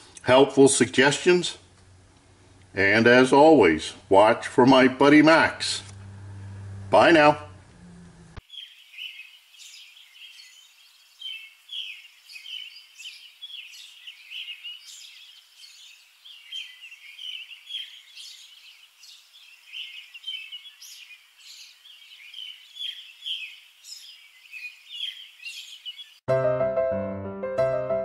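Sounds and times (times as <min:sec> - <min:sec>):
birds chirping: 0:01.0 - 0:26.3.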